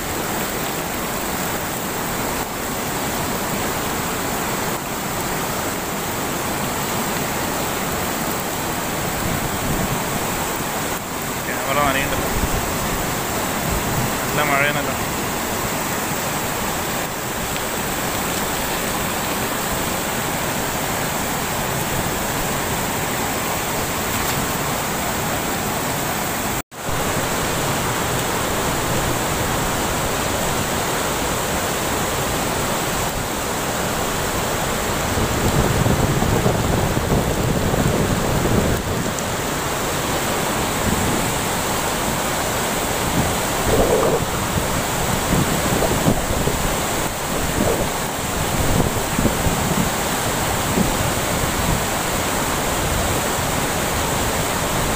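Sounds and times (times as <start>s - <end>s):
water rushing over a weir: 0.0s - 54.9s.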